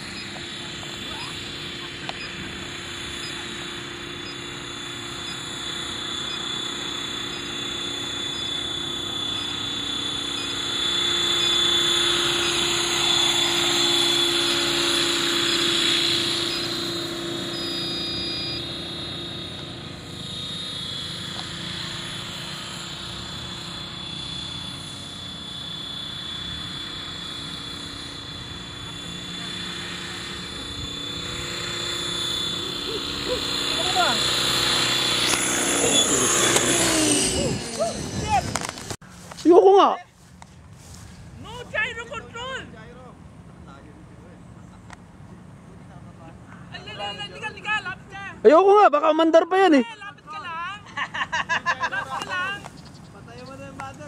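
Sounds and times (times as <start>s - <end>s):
model helicopter rotor and motor whine: 0.0s - 54.0s.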